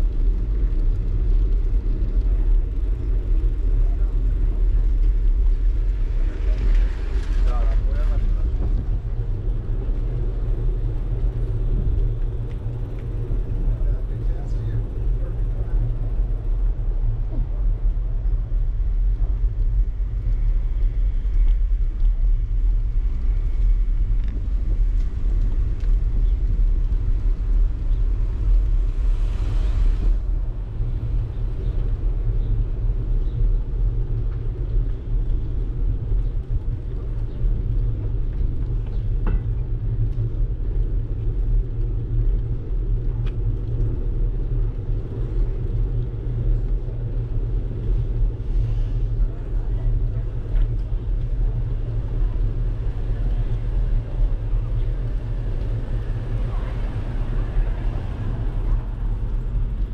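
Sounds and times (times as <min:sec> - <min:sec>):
tyres rolling on pavement: 0:00.0 - 0:59.9
wind buffeting microphone: 0:00.0 - 0:59.9.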